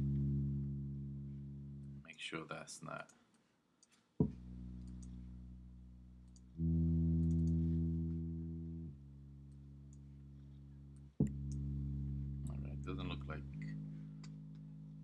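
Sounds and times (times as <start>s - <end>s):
synth bass notes: 0.0s - 2.1s, 4.2s - 15.0s.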